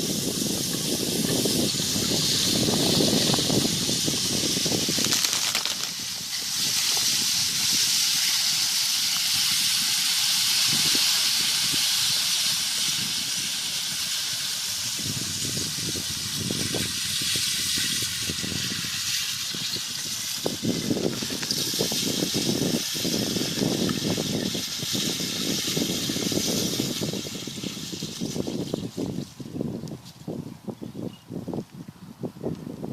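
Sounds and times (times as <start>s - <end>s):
lake ice hissing rush: 0.0s - 29.4s
ice crackling: 0.1s - 30.2s.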